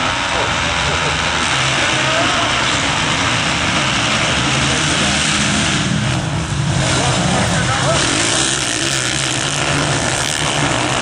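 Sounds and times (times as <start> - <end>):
motocross engines racing: 0.0 - 11.0.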